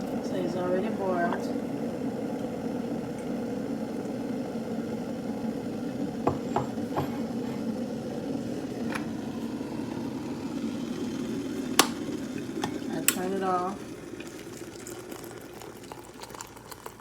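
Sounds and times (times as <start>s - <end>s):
kettle water boiling: 0.0s - 17.0s.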